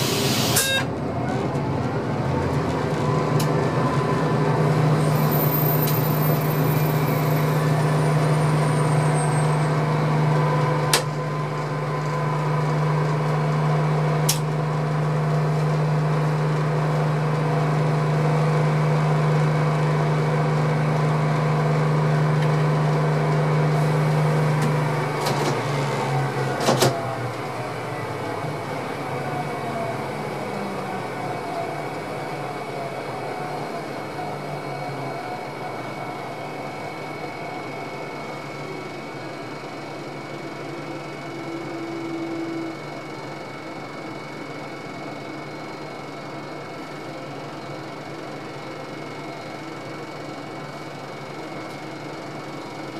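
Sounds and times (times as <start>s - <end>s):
locomotive cab equipment hum: 0.0s - 52.9s.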